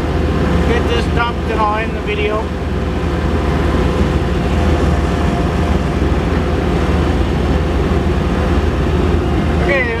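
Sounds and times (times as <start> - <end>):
skid steer engine droning: 0.0 - 10.0.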